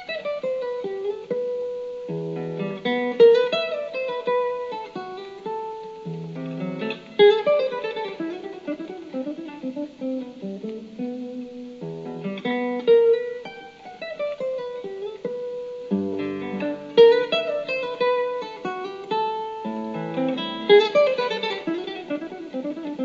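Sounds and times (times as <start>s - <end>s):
acoustic guitar piece: 0.0s - 23.0s.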